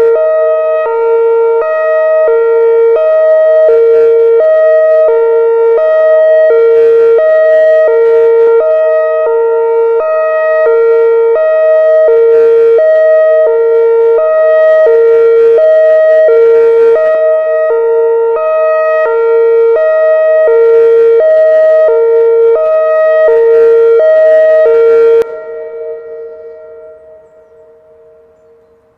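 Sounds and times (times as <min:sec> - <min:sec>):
siren echo: 0:00.0 - 0:28.9
warning siren hi-lo tone: 0:00.0 - 0:28.9.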